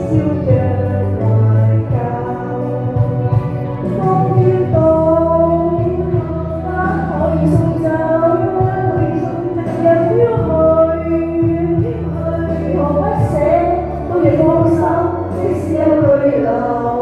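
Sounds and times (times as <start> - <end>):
steady bass accompaniment: 0.0 - 17.0
women singing pop song: 0.0 - 17.0.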